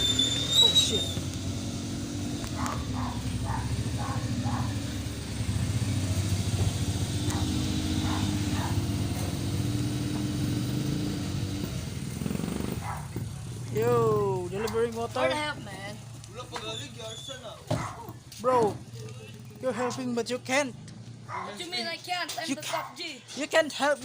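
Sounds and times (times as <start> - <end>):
motor vehicle engine running: 0.0 - 22.1.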